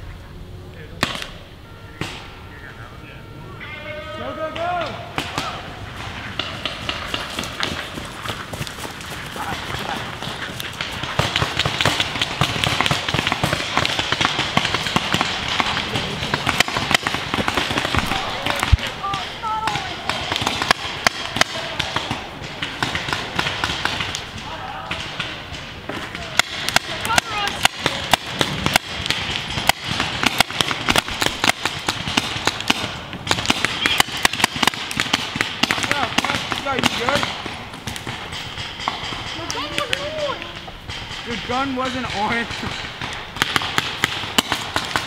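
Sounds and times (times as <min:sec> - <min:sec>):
paintball markers firing: 0:04.6 - 0:45.0.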